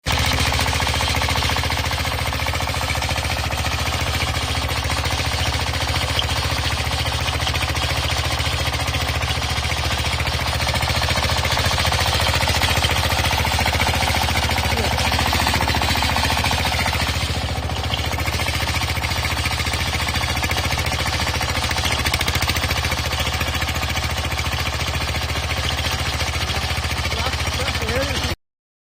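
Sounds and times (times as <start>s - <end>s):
trencher engine and chain clatter: 0.0s - 28.4s.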